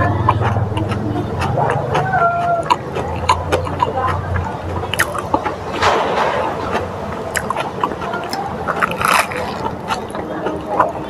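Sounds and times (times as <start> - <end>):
chewing crisp lettuce: 0.0 - 11.0.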